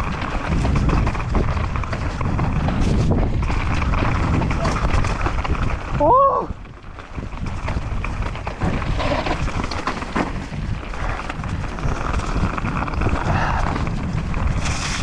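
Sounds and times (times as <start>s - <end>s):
bike clattering over bumps: 0.0s - 15.0s
bike tyres on dirt and rock: 0.0s - 15.0s
wind rumble on microphone: 0.0s - 15.0s.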